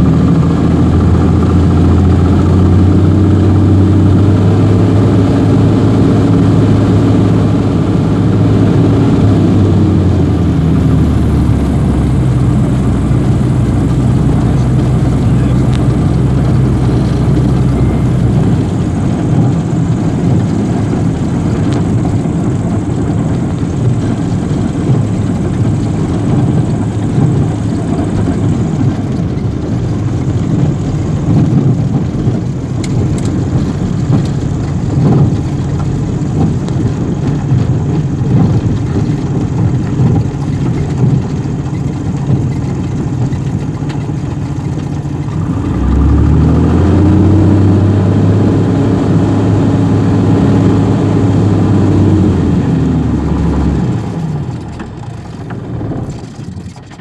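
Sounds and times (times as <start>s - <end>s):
propeller aircraft engine running: 0.0s - 57.0s.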